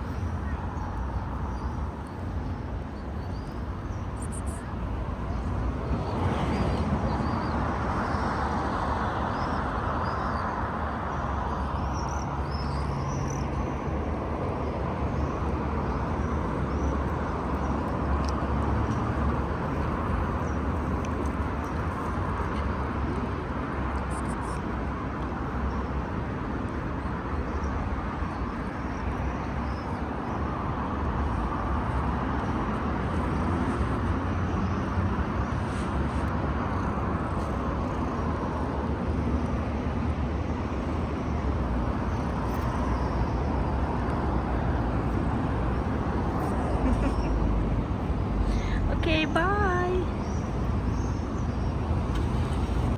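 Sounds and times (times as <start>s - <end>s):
low traffic hum: 0.0s - 52.9s.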